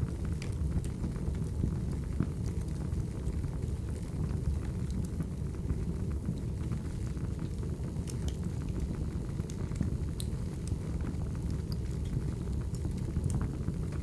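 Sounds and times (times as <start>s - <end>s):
flames rumbling: 0.0s - 14.0s
wood fire crackling: 0.0s - 14.0s.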